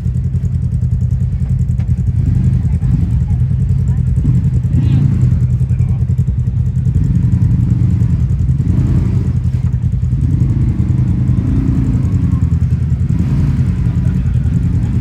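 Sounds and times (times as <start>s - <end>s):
utility vehicle engine rumbling: 0.0s - 15.0s.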